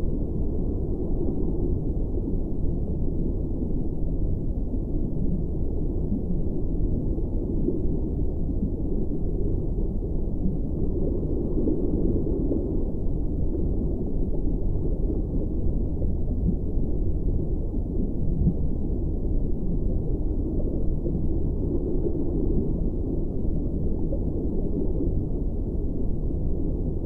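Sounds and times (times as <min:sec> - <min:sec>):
deep rumbling drone: 0:04.6 - 0:27.0.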